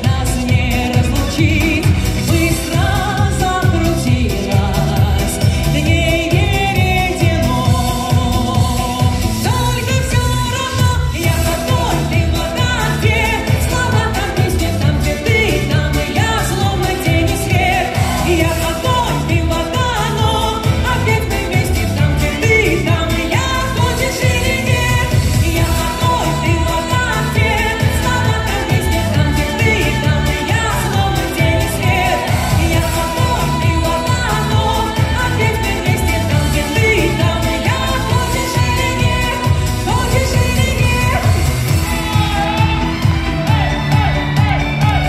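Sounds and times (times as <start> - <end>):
backing track with heavy beat: 0.0 - 45.0
woman singing: 0.0 - 45.0.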